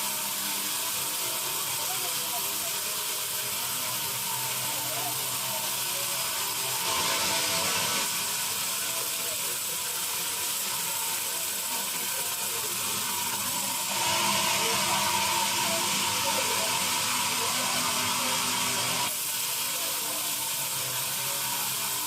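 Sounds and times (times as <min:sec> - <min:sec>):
sawmill machinery hissing: 0:00.0 - 0:22.0.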